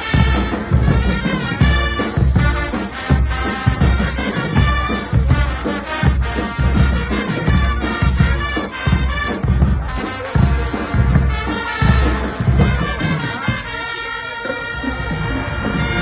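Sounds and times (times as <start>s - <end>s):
bass drum beat: 0.0s - 13.7s
brass band playing: 0.0s - 16.0s.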